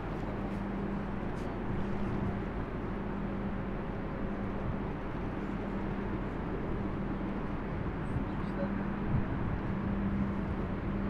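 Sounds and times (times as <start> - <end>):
outdoor noise: 0.0 - 11.0
ship engine droning: 0.0 - 11.0.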